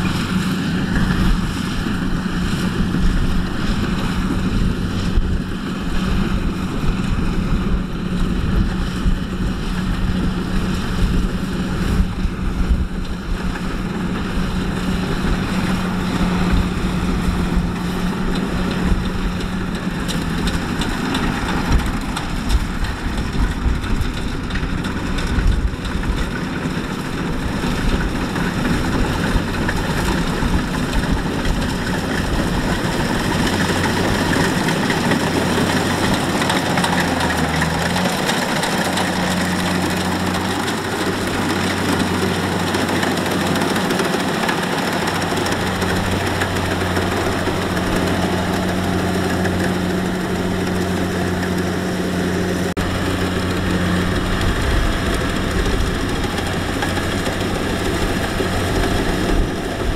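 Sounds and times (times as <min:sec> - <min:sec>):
combine harvester engine running: 0:00.0 - 0:59.9
wind rumble on microphone: 0:00.0 - 0:59.9.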